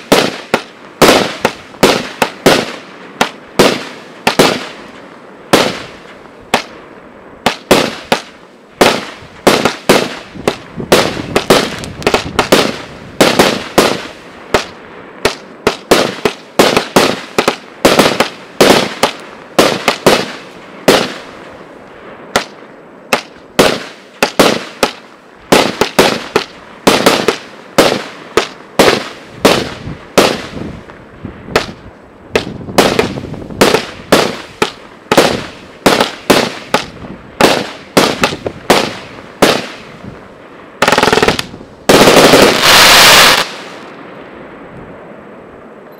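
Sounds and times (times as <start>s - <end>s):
fireworks bangs: 0.0s - 45.0s.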